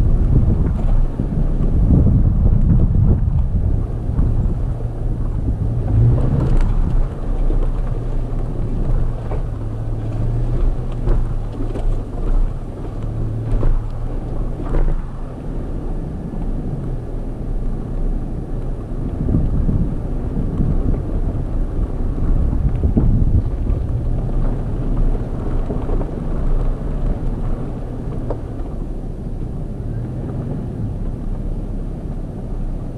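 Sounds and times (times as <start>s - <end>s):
engine low drone: 0.0s - 32.9s.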